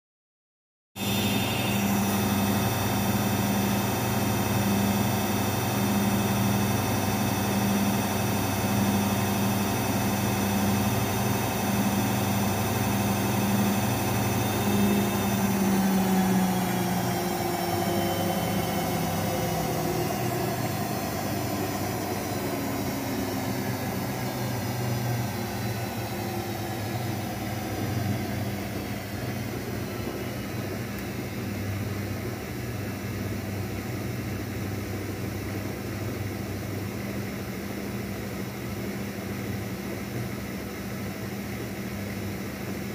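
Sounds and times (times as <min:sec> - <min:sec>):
washing machine spin hum and whine: 0:01.0 - 0:42.9.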